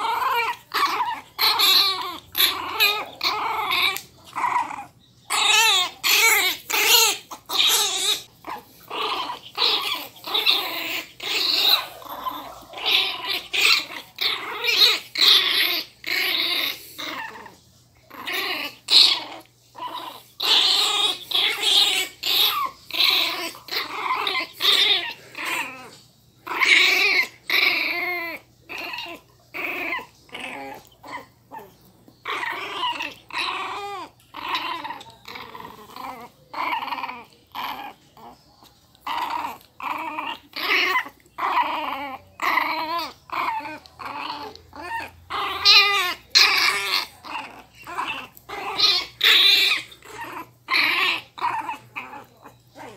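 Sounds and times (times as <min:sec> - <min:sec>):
puppies growling: 0:00.0 - 0:52.9.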